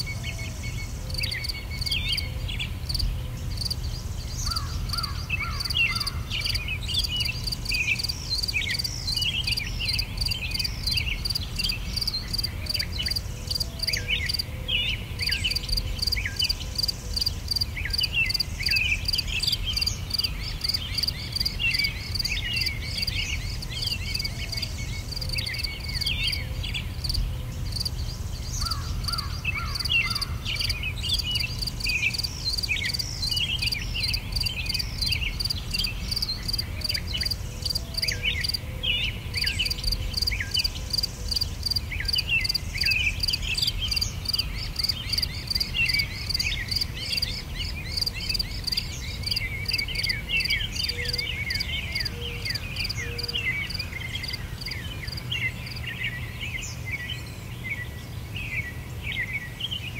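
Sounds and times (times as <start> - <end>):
birds chirping: 0.0 - 59.9
fast-pulsing insect chorus: 2.9 - 14.5, 15.2 - 26.4, 27.0 - 38.6, 39.4 - 53.0.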